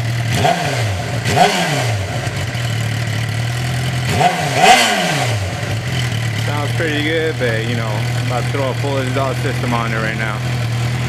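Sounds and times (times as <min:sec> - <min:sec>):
motorcycle engine revving from idle: 0:00.0 - 0:11.0.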